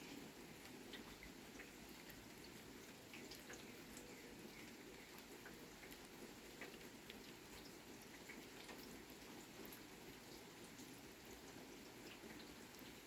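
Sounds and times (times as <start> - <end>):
light rain hiss: 0.0 - 13.0
raindrops pattering: 0.0 - 13.0.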